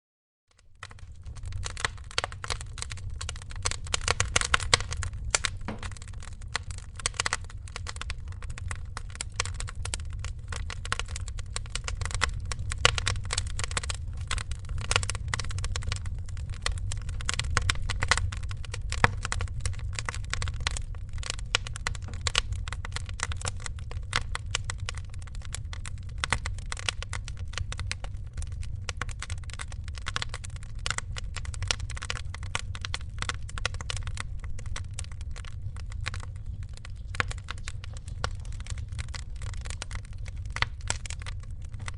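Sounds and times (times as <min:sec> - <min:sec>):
wood fire crackling: 0:00.5 - 0:41.9.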